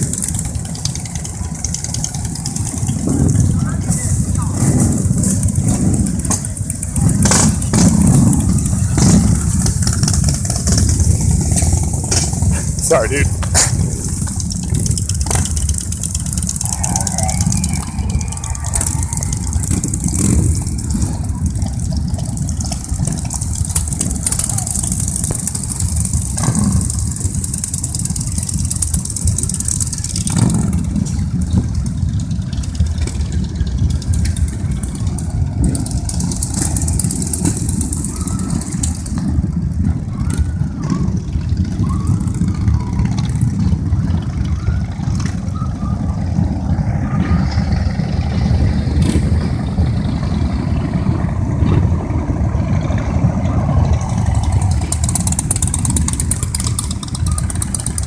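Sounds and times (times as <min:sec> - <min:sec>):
motorcycles riding past: 0:00.0 - 0:58.0.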